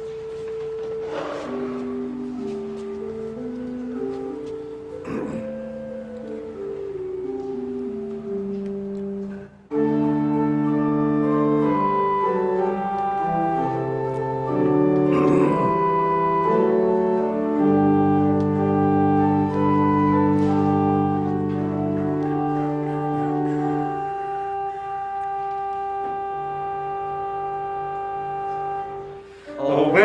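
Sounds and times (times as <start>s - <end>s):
organ playing held chords: 0.0s - 30.0s.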